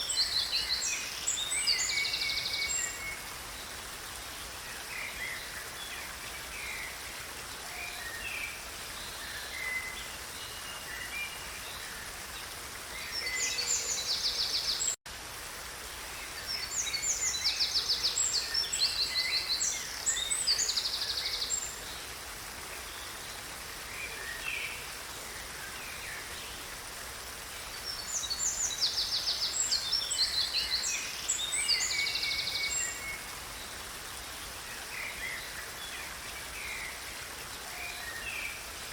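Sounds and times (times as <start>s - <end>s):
songbirds singing: 0.0s - 15.0s, 16.1s - 38.9s
river water flowing: 0.0s - 38.9s.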